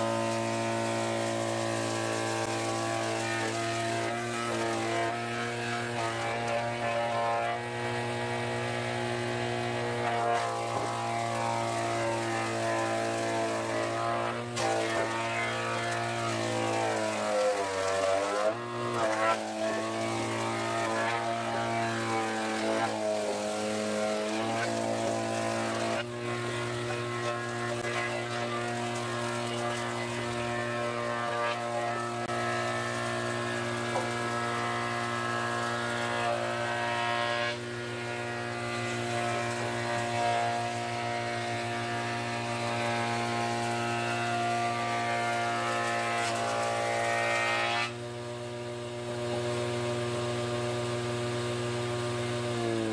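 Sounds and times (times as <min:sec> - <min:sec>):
woodworking machine running: 0:00.0 - 0:52.9.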